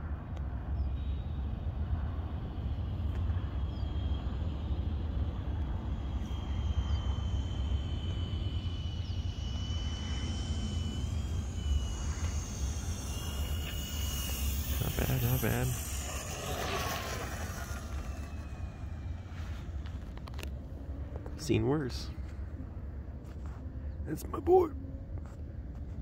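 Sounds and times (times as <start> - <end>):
model plane motor whine: 0.0 - 26.0.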